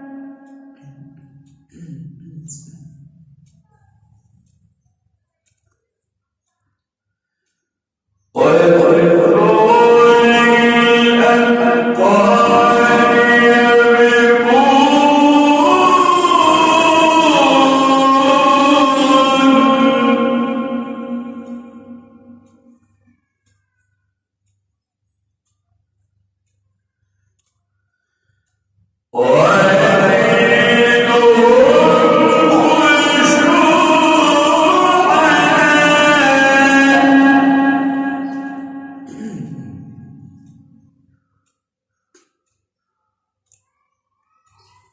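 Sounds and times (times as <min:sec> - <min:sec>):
man reciting melodically: 0:00.0 - 0:04.7, 0:08.2 - 0:23.8, 0:29.2 - 0:44.9.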